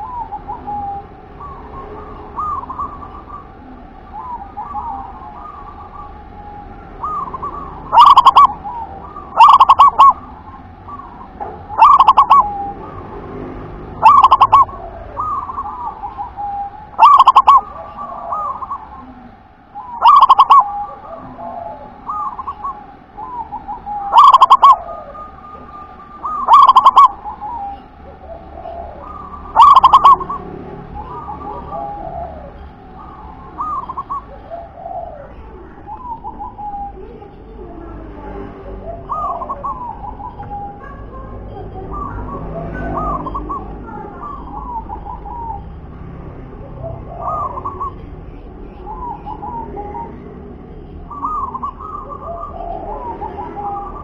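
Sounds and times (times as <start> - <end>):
zebra dove cooing: 0.0 - 13.2, 13.8 - 38.0, 38.6 - 54.0.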